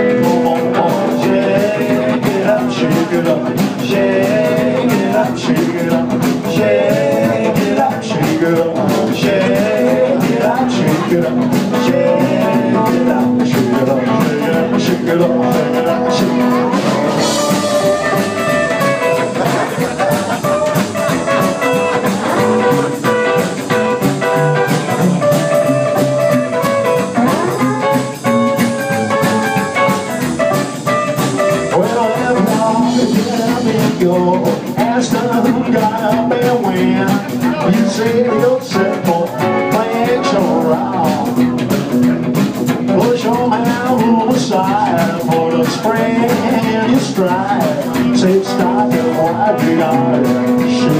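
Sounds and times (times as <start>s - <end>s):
drum kit: 0.0s - 50.9s
electric guitar: 0.0s - 50.9s
upright double bass: 0.0s - 50.9s.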